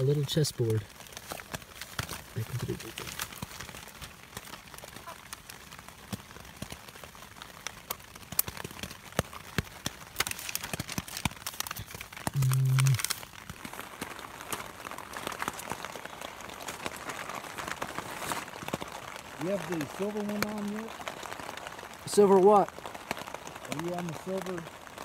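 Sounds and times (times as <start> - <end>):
plastic wrappers crinkling: 0.0 - 22.4.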